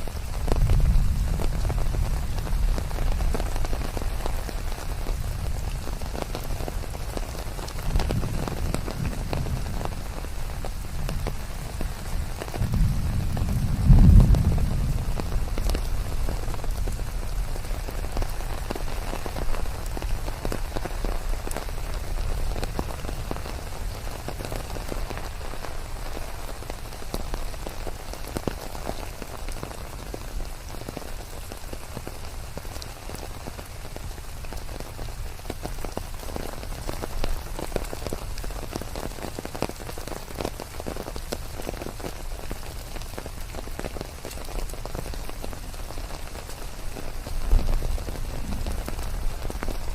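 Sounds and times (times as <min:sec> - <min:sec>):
rain hiss: 0:00.0 - 0:49.9
raindrops ticking: 0:00.0 - 0:49.9.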